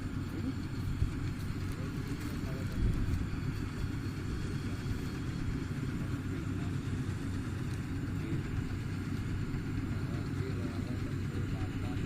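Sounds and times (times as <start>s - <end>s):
combine harvester engine rumbling: 0.0s - 12.0s.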